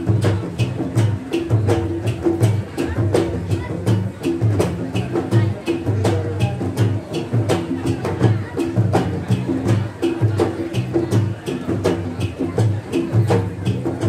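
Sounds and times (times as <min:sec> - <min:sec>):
drums beating a steady rhythm: 0:00.0 - 0:14.0.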